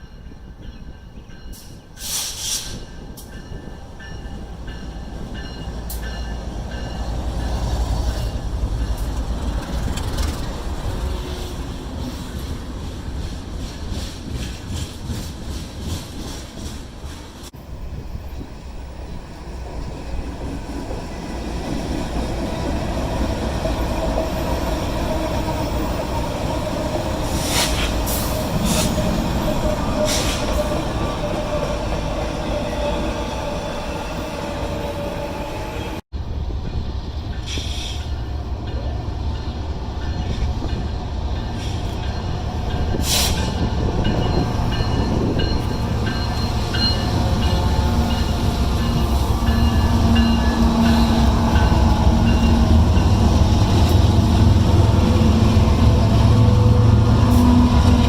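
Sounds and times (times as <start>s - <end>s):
train clanks: 0.0s - 58.0s
train wheels rumbling: 0.0s - 58.0s.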